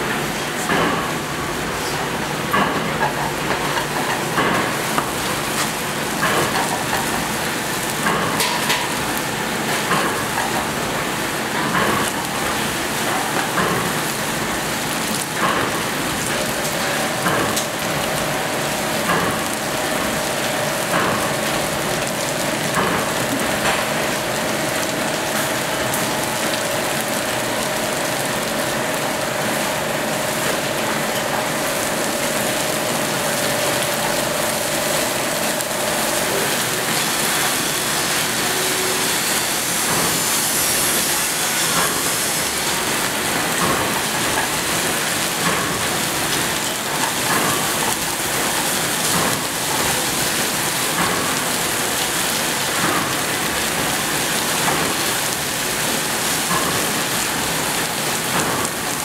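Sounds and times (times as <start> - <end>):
noodles sizzling in a frying pan: 3.1 - 59.0.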